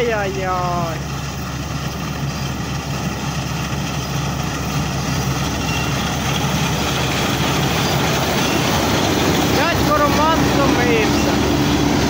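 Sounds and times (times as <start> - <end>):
combine harvester engine drone: 0.0 - 12.0
threshing machinery: 0.0 - 12.0.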